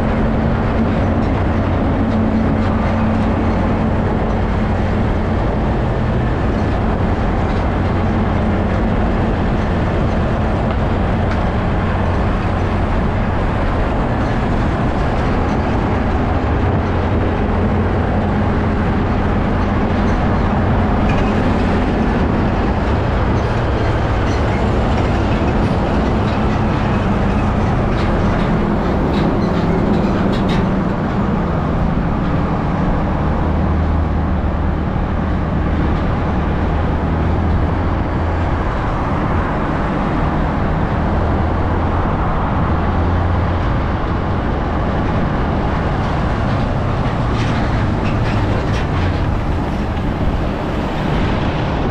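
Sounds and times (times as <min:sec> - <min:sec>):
truck engine and road noise: 0:00.0 - 0:51.9.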